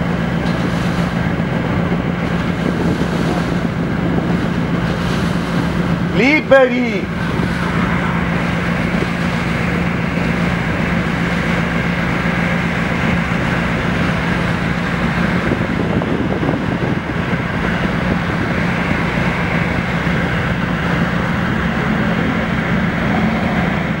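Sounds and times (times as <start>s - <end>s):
rushing water wash: 0.0s - 24.0s
ship engines humming: 0.0s - 24.0s.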